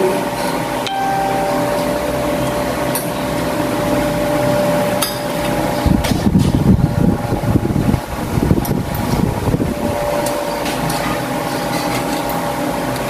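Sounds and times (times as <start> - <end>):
mechanical hum and rumble: 0.0 - 13.0.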